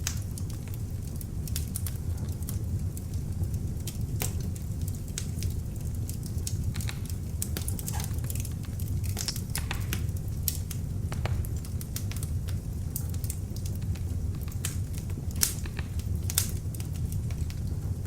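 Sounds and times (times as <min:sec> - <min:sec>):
log fire crackling and popping: 0:00.0 - 0:18.0
low rumble of flames: 0:00.0 - 0:18.0.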